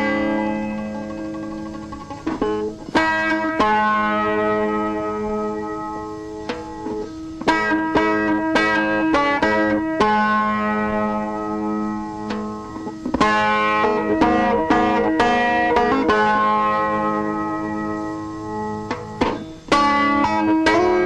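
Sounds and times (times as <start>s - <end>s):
plucked string instrument: 0.0s - 21.0s.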